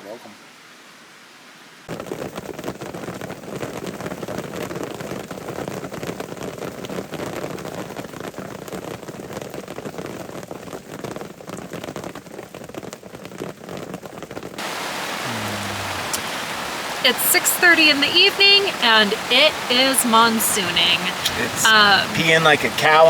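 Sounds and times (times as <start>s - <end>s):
raindrops striking a surface: 1.8s - 23.0s
heavy rain falling: 1.9s - 14.0s, 14.6s - 23.0s.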